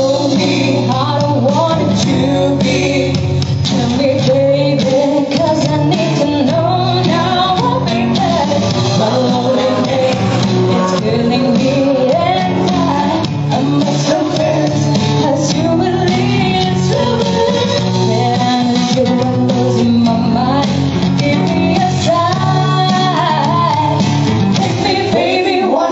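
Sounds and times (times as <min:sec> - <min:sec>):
guitar accompaniment: 0:00.0 - 0:25.9
person singing: 0:00.0 - 0:25.9.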